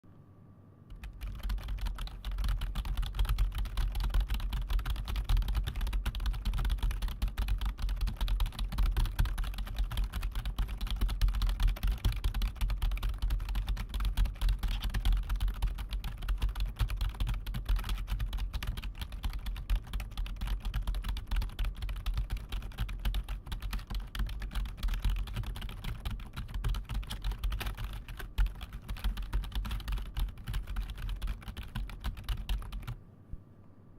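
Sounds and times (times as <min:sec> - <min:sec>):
keyboard typing: 0:00.9 - 0:33.0.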